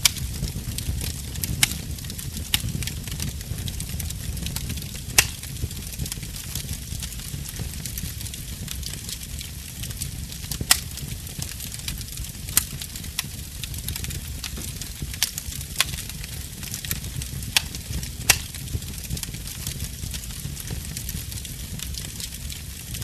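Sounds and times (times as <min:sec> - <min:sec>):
sharp pops of burning wood: 0:00.0 - 0:23.0
wood fire crackling: 0:00.0 - 0:23.0.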